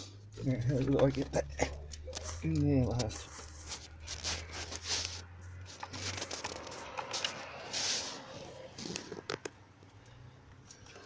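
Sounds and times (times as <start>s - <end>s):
rustling and scraping of parts: 0.0s - 11.0s.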